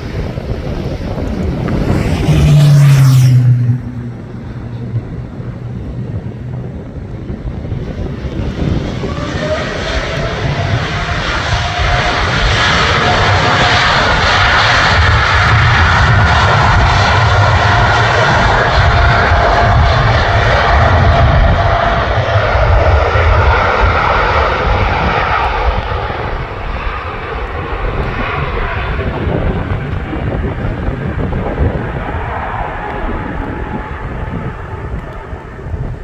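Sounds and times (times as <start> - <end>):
jet engines running with whine: 0.0 - 36.0.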